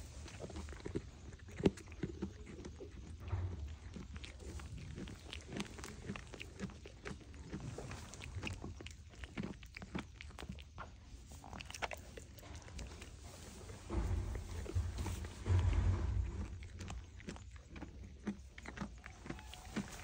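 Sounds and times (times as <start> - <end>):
sheep chewing with crisp crunches: 0.0 - 20.0.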